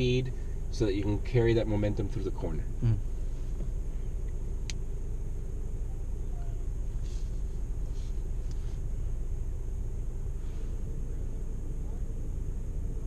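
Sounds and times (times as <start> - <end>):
car engine rumble from cabin: 0.0 - 13.0.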